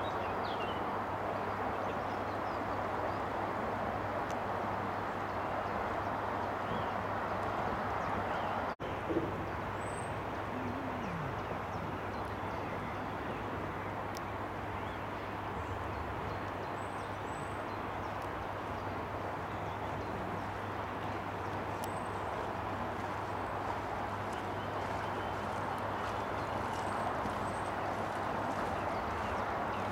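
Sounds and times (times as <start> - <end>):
steady rushing outdoor noise: 0.0 - 29.9.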